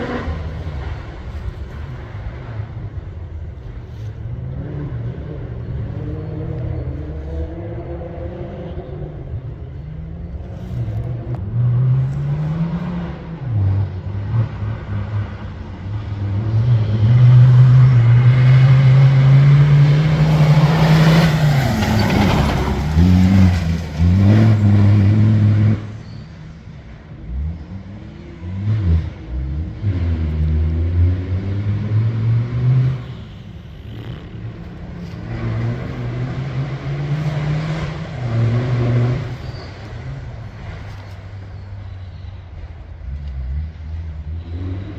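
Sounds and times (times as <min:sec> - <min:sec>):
racing vehicle engine revving: 0:00.0 - 0:44.9.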